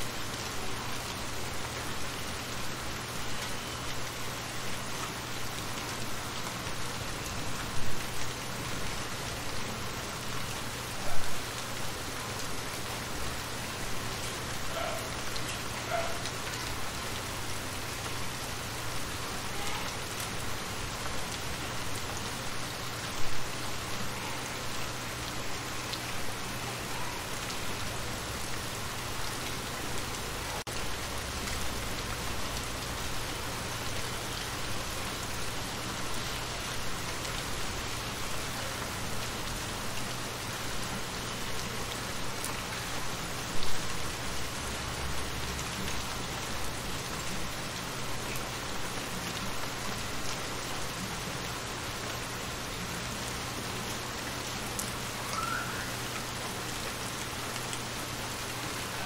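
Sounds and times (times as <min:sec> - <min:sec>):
rain patter on shallow water: 0:00.0 - 0:59.0.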